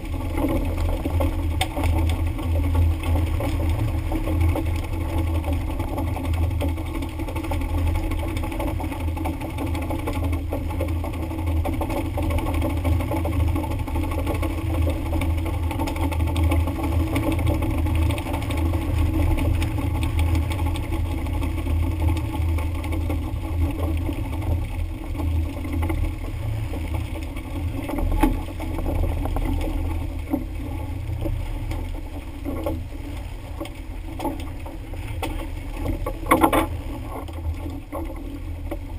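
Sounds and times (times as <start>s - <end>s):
boat engine drone: 0.0s - 38.9s.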